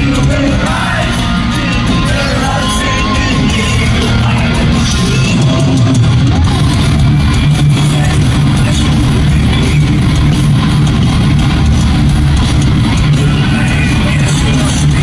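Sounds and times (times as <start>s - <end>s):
thrash metal band playing live: 0.0s - 15.0s.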